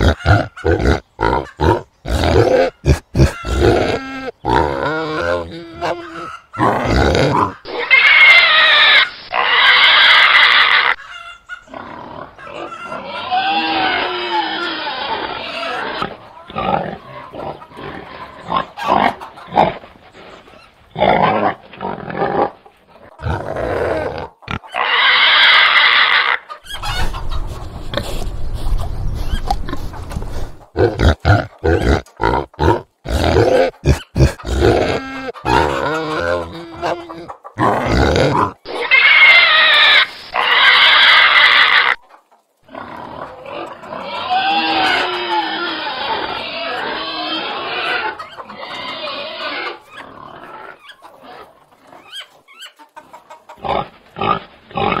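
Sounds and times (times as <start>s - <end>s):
pigs grunting: 0.0s - 8.7s, 11.7s - 26.4s, 29.2s - 42.0s, 42.6s - 52.2s, 53.6s - 55.0s
pig squealing: 0.0s - 19.8s, 23.2s - 27.2s, 30.8s - 42.0s, 42.7s - 52.8s.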